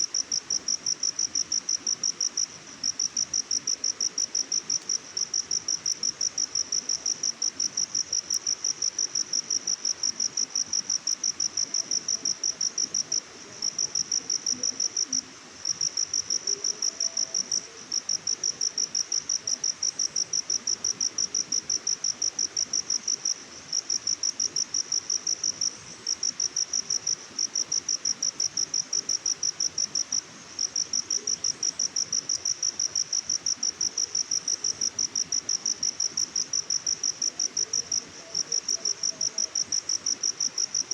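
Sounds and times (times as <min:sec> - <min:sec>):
cricket chirping: 0:00.0 - 0:40.9
faint hiss: 0:00.0 - 0:40.9.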